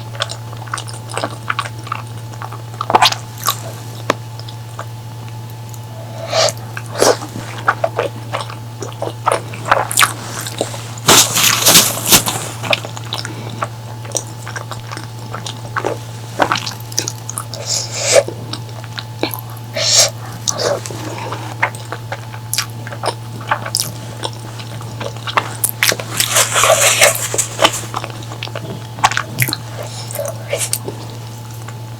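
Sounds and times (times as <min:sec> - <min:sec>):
steady low hum: 0:00.0 - 0:31.9
wet chewing: 0:00.0 - 0:31.9.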